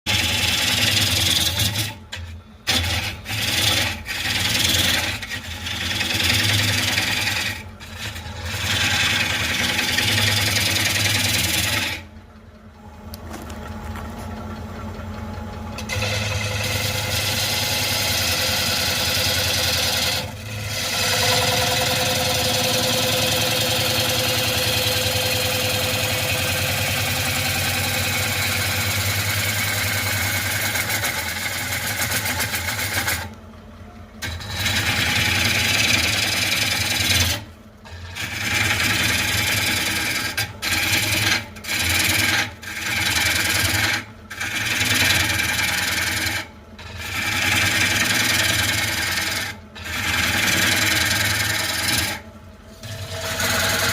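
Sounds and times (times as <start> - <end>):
lathe motor hum: 0.1 - 53.9.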